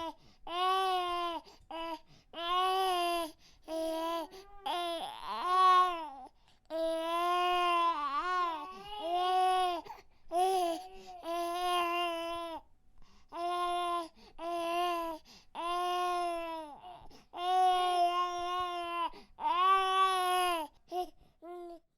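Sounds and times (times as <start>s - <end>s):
baby crying: 0.0s - 12.6s, 13.4s - 20.7s.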